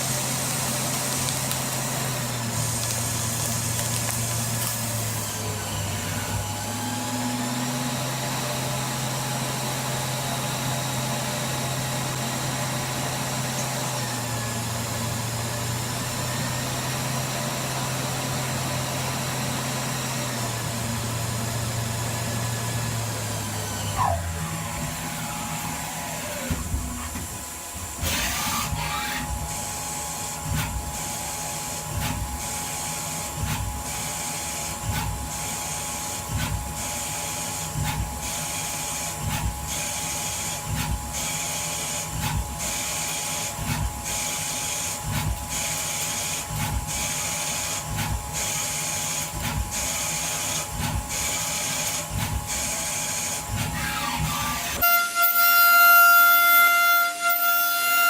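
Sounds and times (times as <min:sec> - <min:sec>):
machine whining and hissing: 0:00.0 - 0:58.0.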